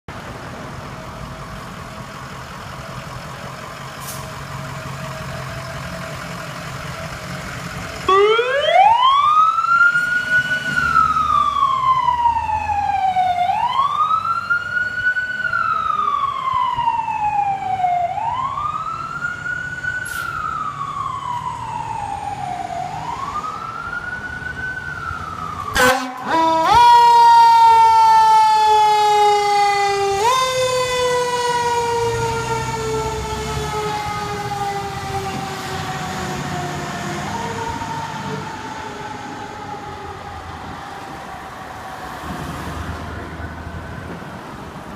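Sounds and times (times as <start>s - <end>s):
fire truck engine rumbling: 0.1s - 44.9s
steady high siren tone: 8.0s - 44.6s.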